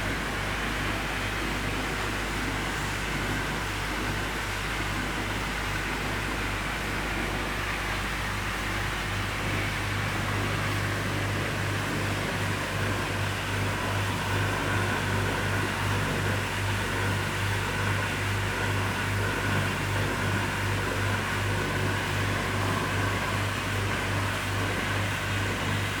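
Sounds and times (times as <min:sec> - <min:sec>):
machine humming and pulsing: 0:00.0 - 0:26.0.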